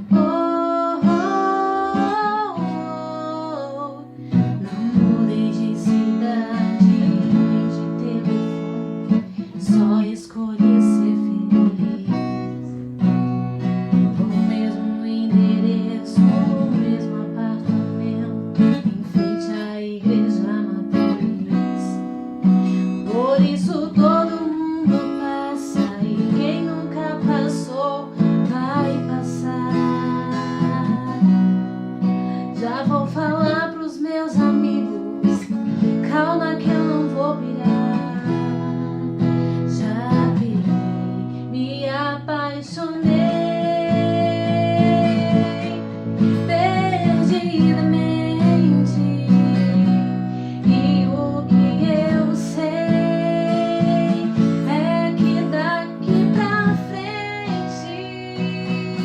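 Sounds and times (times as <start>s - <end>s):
strummed acoustic guitar: 0.0s - 59.0s
woman singing: 0.0s - 59.0s.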